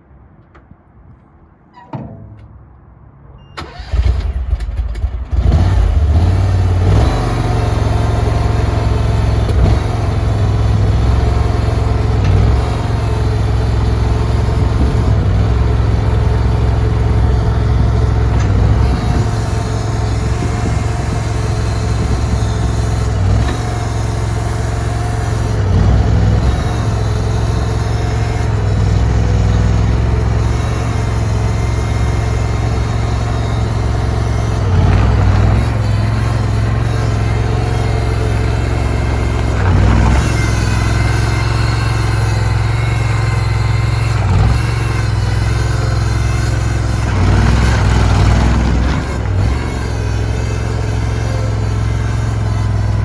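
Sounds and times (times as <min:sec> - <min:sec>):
skid steer engine starting and running: 0:03.4 - 0:53.0.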